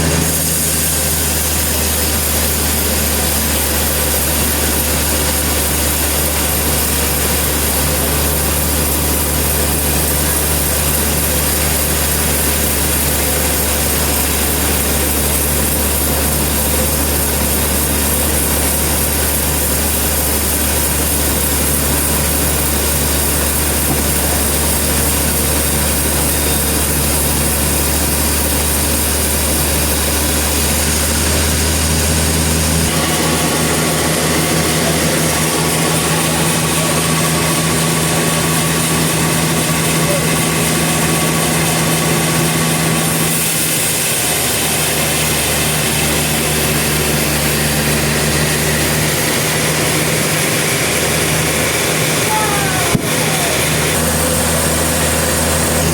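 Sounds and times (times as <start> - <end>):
sawmill engine humming: 0.0 - 55.9.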